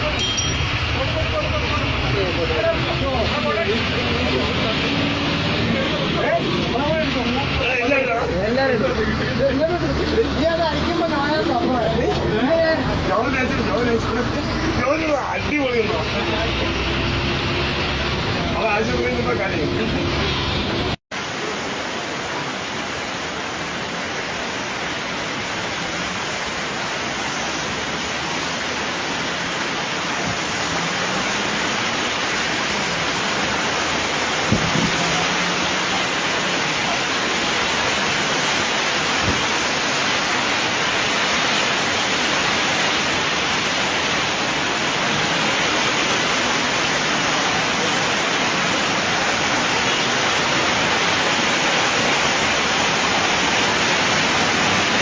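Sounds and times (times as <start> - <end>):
rain pouring: 0.0 - 55.0.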